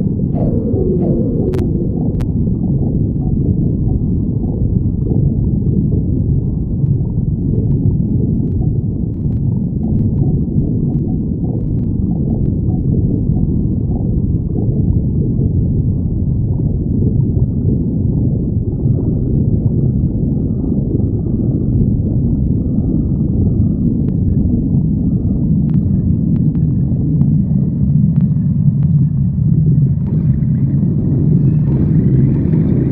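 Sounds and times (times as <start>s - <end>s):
stomach growling: 0.0s - 32.9s.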